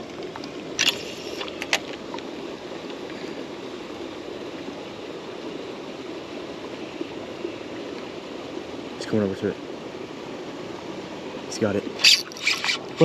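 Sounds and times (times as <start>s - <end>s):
water gushing into river: 0.0s - 13.0s.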